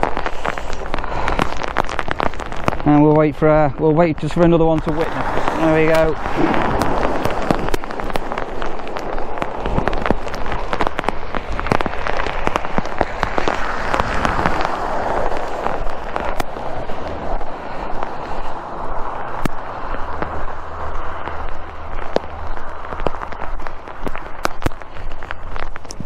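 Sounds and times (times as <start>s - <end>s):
low rumble: 0.0s - 26.0s
rain and wind on microphone: 0.0s - 26.0s
sharp crackling taps: 0.0s - 26.0s.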